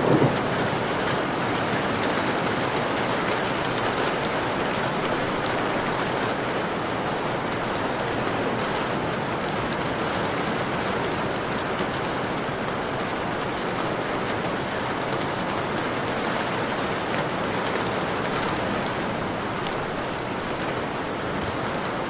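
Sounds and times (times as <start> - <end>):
rain hitting a window: 0.0 - 22.0.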